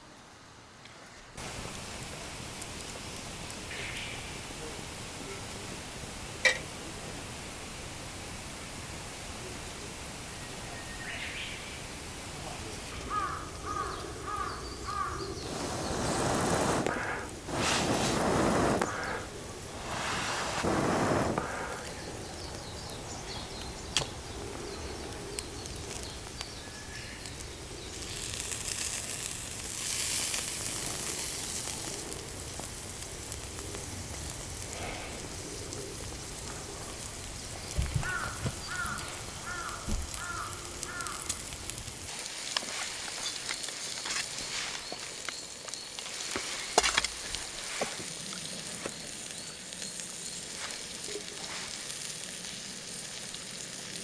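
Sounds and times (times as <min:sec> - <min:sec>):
food sizzling over campfire: 0:00.0 - 0:54.0
crackles and clicks: 0:00.8 - 0:07.8, 0:08.4 - 0:54.0.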